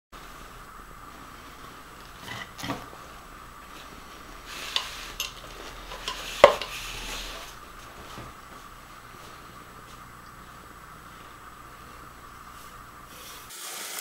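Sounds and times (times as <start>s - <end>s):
soft hiss: 0.2s - 14.0s.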